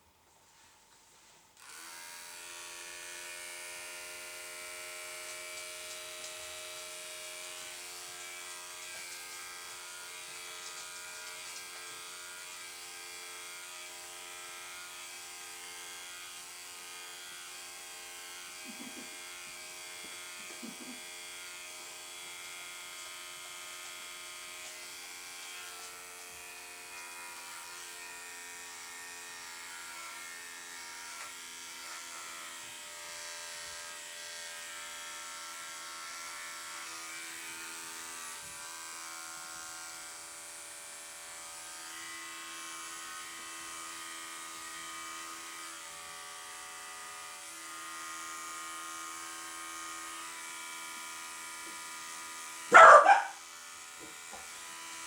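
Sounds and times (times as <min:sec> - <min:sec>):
electric clippers buzzing: 0:01.6 - 0:55.0.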